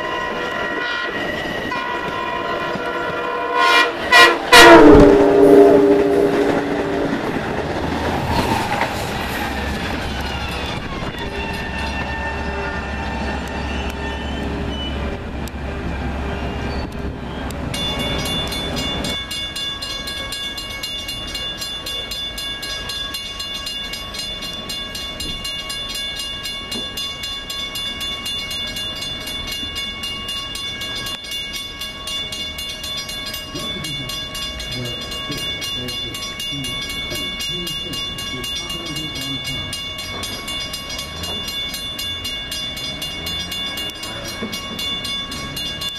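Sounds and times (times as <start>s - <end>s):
grade-crossing bell ringing: 0.0s - 45.9s
train passing with low rumble: 0.0s - 45.9s.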